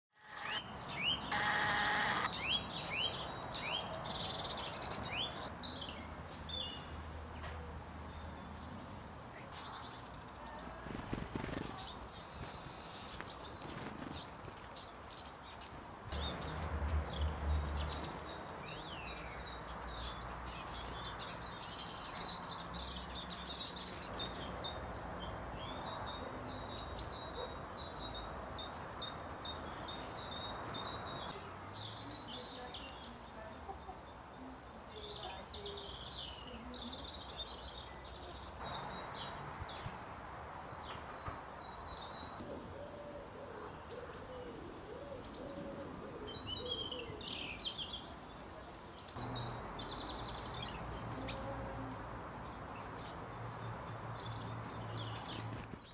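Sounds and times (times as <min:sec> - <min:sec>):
small birds chirping: 0:00.1 - 0:40.0, 0:43.5 - 0:55.9
steady outdoor background: 0:00.1 - 0:55.9.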